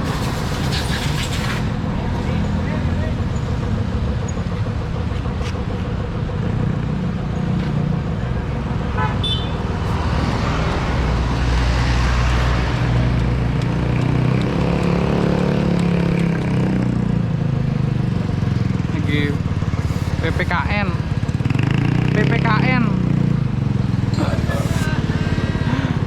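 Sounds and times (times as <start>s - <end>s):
motorcycle engine running: 1.7s - 26.0s.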